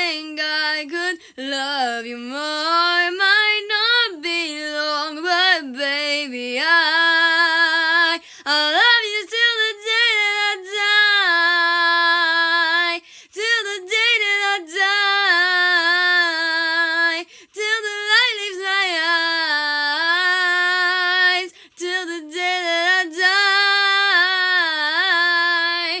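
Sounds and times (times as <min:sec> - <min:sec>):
woman singing a cappella: 0:00.0 - 0:26.0.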